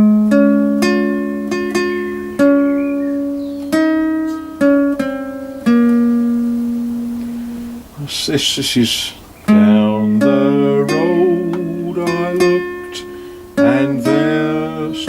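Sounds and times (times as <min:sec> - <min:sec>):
guitar plucked notes: 0:00.0 - 0:15.0.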